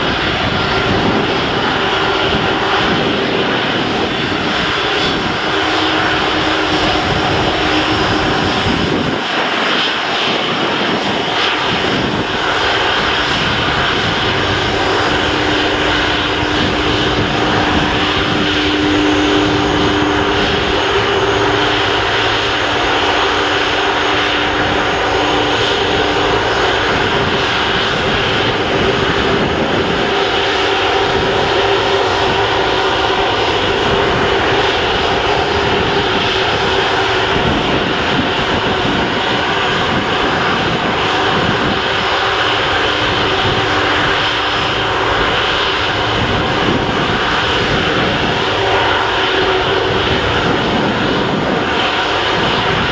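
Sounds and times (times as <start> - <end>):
jet engines roaring: 0.0 - 52.9
steady jet engine whine: 0.0 - 52.9.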